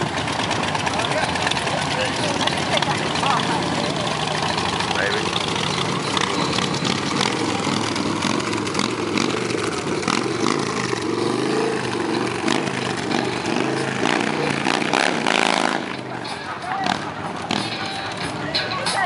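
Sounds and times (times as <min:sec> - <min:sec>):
motorcycle engine revving lightly: 0:00.0 - 0:18.8.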